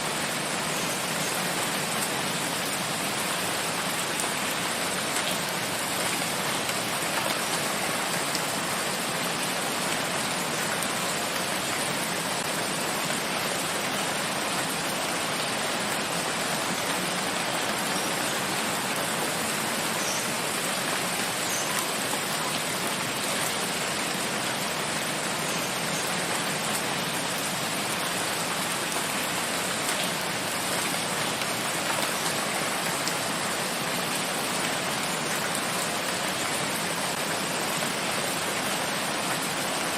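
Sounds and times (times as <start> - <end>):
rain on leaves and ground: 0.0 - 39.9.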